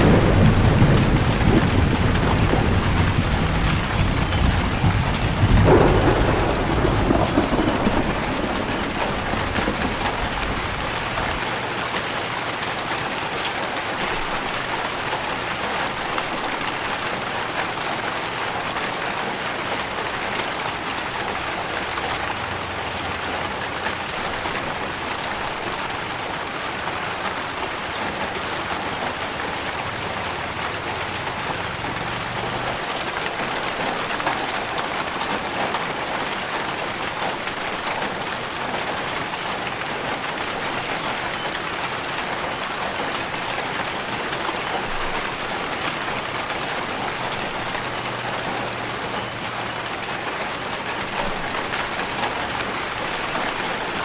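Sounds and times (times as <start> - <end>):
raindrops ticking close by: 0.0 - 54.0
steady rain falling: 0.0 - 54.0.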